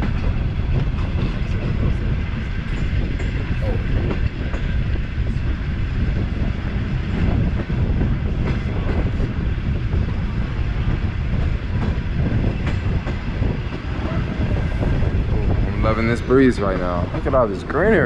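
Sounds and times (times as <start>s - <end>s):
train carriage rumbling on rails: 0.0s - 18.0s.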